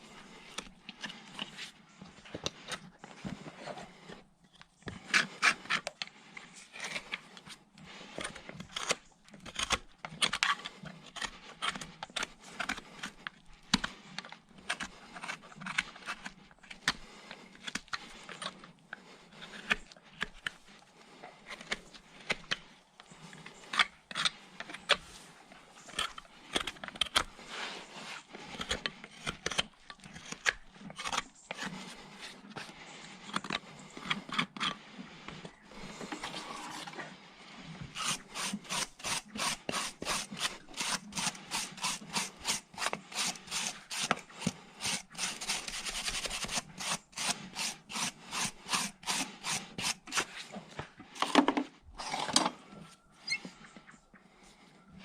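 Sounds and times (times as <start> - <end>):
rasp filing a hoof: 0.0 - 51.3, 51.9 - 54.7.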